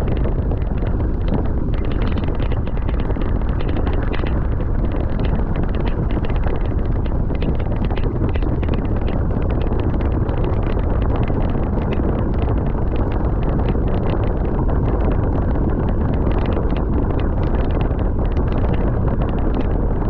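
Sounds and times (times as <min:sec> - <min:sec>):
heavy wind buffeting microphone: 0:00.0 - 0:20.0.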